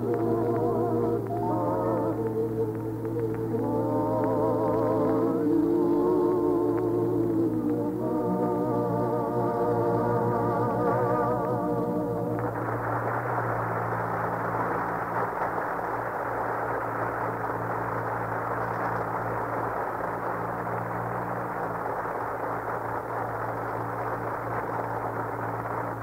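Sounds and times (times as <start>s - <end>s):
low electrical hum: 0.0s - 26.0s
radio recording hiss: 0.0s - 26.0s.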